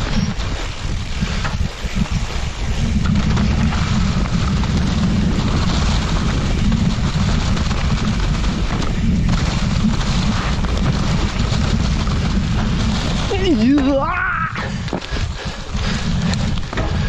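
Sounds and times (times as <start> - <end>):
tyres rolling on dirt trail: 0.0 - 17.0
wind buffeting microphone: 0.0 - 17.0.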